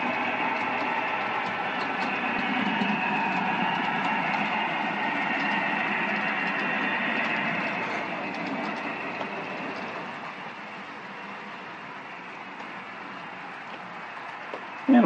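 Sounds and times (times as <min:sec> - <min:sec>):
model train motor whirring: 0:00.0 - 0:14.8.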